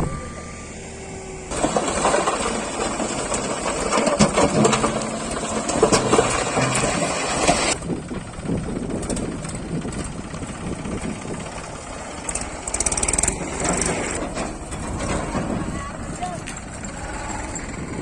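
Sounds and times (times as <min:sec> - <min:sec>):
heavy machinery diesel engine rumble: 0:00.0 - 0:18.0.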